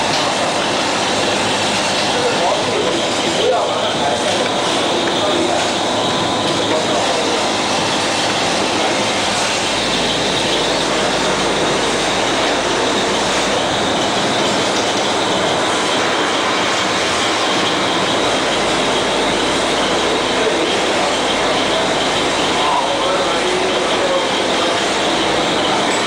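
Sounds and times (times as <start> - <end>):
faint constant whine: 0.0 - 26.0.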